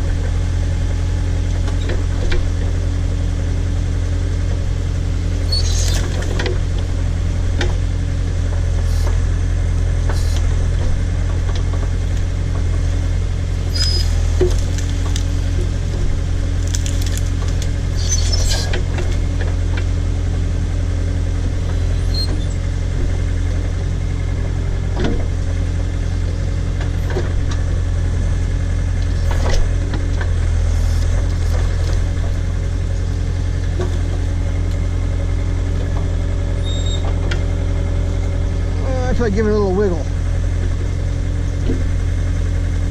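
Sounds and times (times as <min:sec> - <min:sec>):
backhoe engine running: 0:00.0 - 0:42.9.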